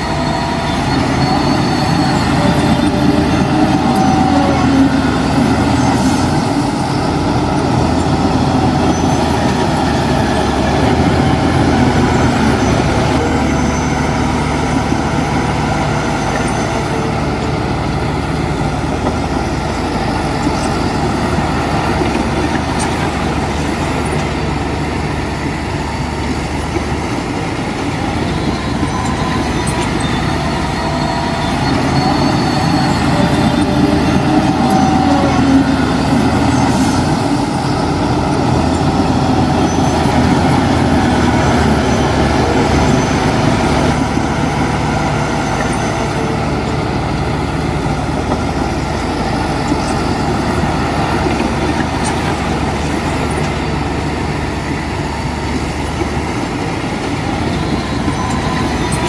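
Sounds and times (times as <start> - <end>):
diesel earthmoving machinery running: 0.0 - 59.0.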